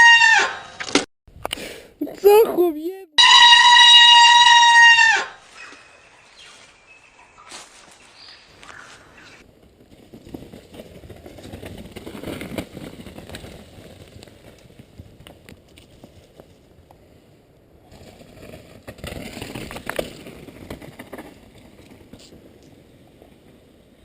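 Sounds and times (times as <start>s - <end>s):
faint outdoor noise: 0.0s - 24.0s.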